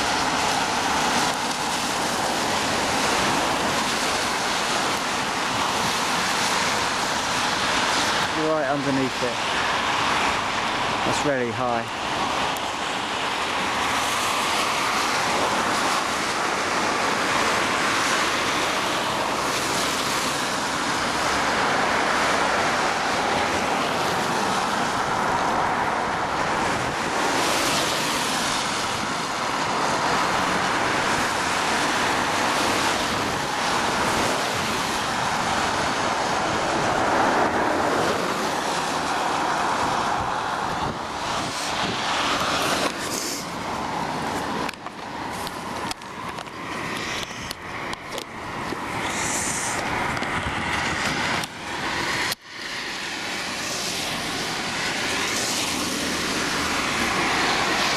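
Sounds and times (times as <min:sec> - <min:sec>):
tyre hiss on wet road: 0:00.0 - 0:57.9
wind noise on microphone: 0:09.2 - 0:57.9.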